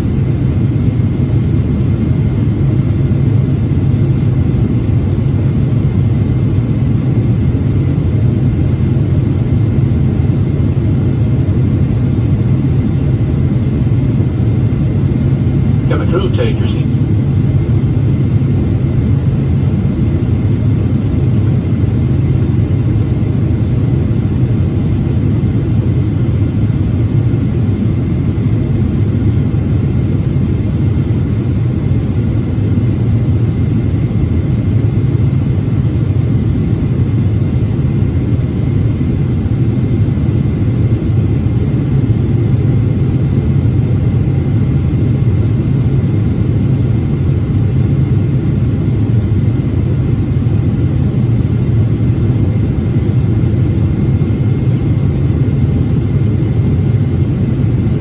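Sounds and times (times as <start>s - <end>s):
jet engine cabin rumble: 0.0s - 58.0s.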